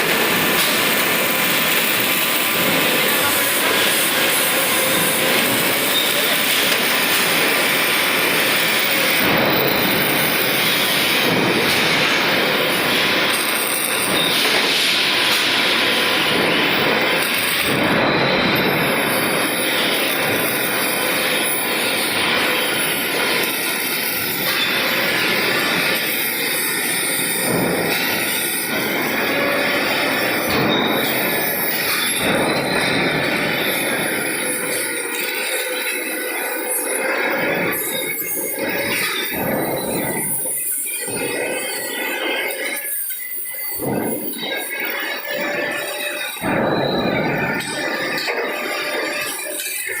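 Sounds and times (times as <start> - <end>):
industrial hiss and clatter: 0.0 - 50.0.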